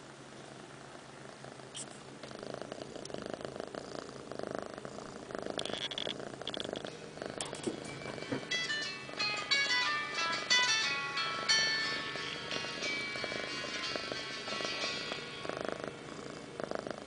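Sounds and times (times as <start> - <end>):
kitten purring: 0.0 - 9.8, 11.9 - 17.0.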